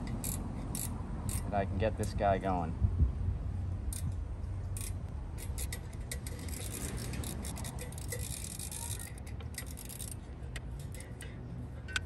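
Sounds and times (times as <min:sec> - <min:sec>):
hand tools clicking and scraping metal: 0:00.0 - 0:02.2, 0:03.9 - 0:12.0.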